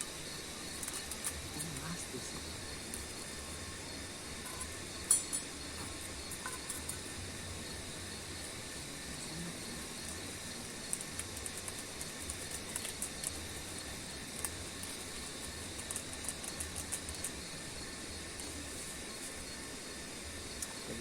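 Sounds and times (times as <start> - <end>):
insect chorus: 0.0 - 21.0
rapid high insect ticking: 0.0 - 21.0.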